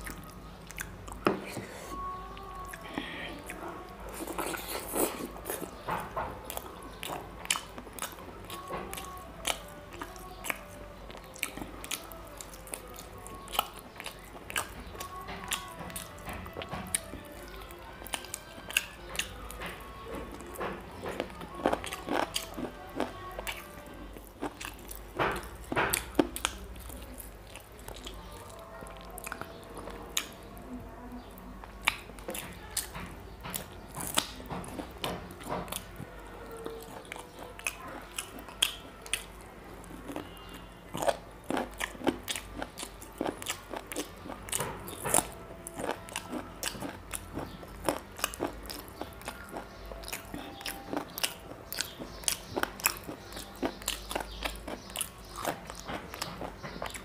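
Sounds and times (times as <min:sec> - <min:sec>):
person chewing with mouth open: 0:00.0 - 0:30.6, 0:31.6 - 0:57.0.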